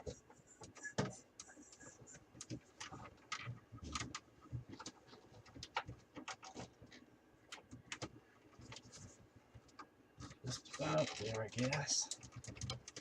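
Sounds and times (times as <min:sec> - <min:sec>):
plastic clicks and scrapes: 0:00.0 - 0:13.0.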